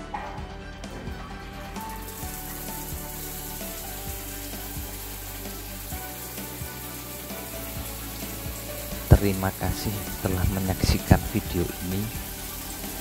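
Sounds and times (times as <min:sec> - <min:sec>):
shower water spraying: 0:00.9 - 0:13.0.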